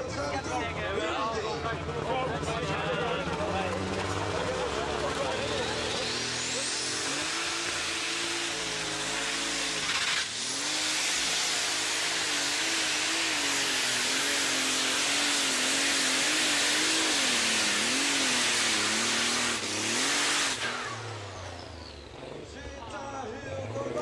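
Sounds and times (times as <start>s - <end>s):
tractor diesel engine at full power: 0.0s - 24.0s.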